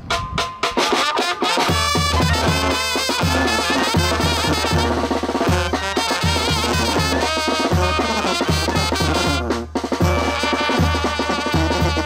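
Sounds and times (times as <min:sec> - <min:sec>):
snare drum: 0:00.0 - 0:12.0
bass drum beat: 0:00.1 - 0:12.0
trombone: 0:00.1 - 0:12.0
trumpet: 0:00.1 - 0:12.0
clarinet: 0:00.7 - 0:12.0.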